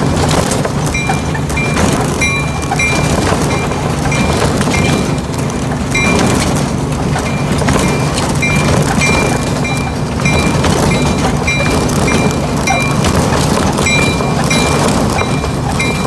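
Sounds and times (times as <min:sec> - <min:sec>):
high-pitched wheel squeaks: 0:00.0 - 0:16.0
miniature train rumbling on rails: 0:00.0 - 0:16.0.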